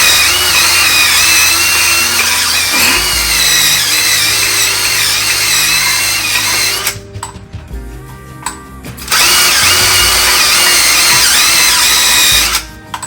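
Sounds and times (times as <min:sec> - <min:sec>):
power drill whining: 0:00.0 - 0:07.0, 0:09.0 - 0:13.0.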